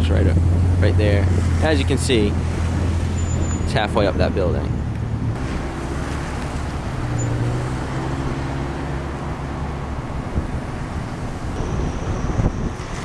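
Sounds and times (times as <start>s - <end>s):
road traffic rush: 0.0s - 13.0s
vehicle engine humming: 0.0s - 13.0s.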